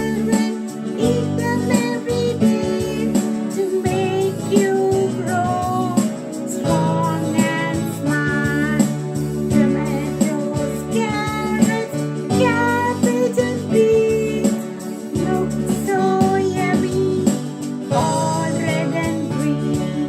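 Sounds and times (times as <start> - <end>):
light beat: 0.0 - 20.0
woman singing: 0.0 - 20.0.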